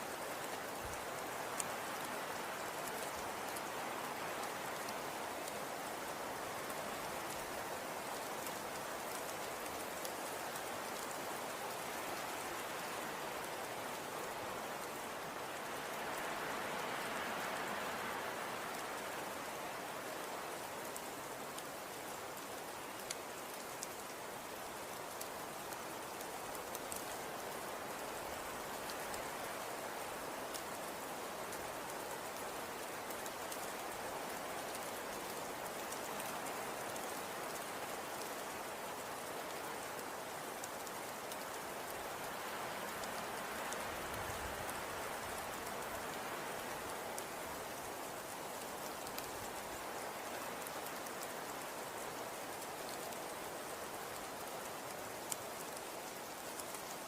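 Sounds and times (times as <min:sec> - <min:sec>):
wind: 0:00.0 - 0:57.0
faint ticks: 0:00.2 - 0:14.0, 0:18.4 - 0:57.0.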